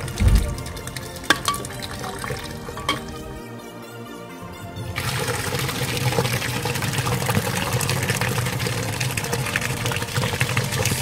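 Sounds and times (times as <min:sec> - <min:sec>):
liquid pouring into a plastic bucket: 0:00.0 - 0:03.0, 0:05.0 - 0:11.0.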